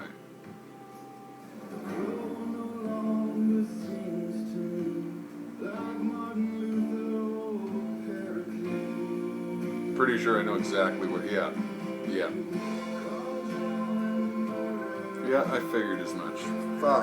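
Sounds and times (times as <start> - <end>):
guitar: 0.0 - 17.0
person singing with held notes: 2.0 - 17.0.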